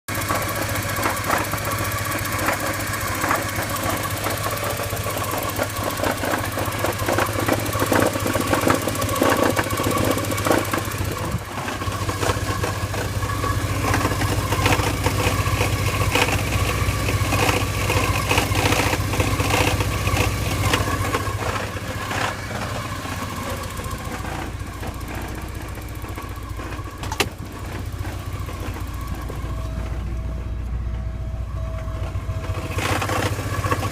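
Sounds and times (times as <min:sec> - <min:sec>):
car engine idling: 0:00.1 - 0:33.9
clutch grinding and rattling: 0:00.1 - 0:33.9.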